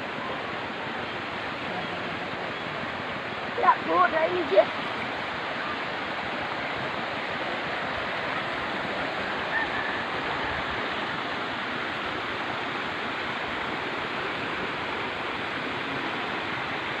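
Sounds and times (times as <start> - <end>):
floodwater flowing: 0.0 - 17.0.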